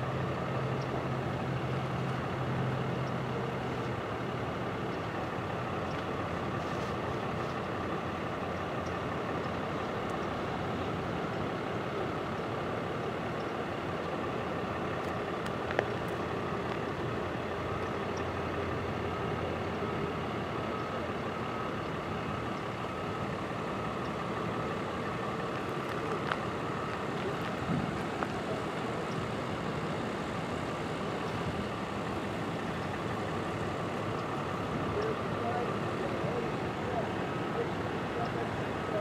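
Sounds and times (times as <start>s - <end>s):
distant motor vehicle noise: 0.0s - 39.0s
faint steady tone: 0.0s - 39.0s.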